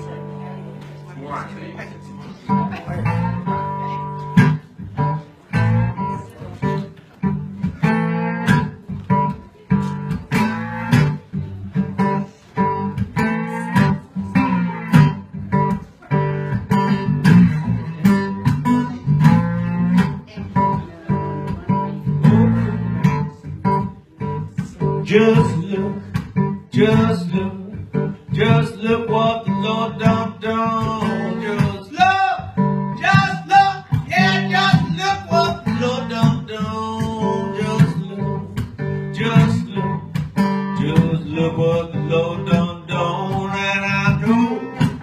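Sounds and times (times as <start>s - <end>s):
acoustic guitar picking and strumming: 0.0s - 45.0s.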